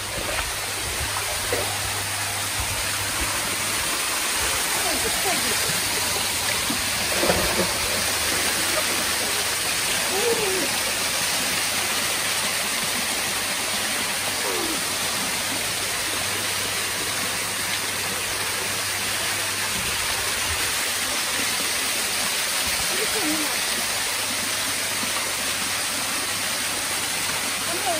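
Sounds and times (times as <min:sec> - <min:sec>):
waterfall splashing into pool: 0:00.0 - 0:27.9.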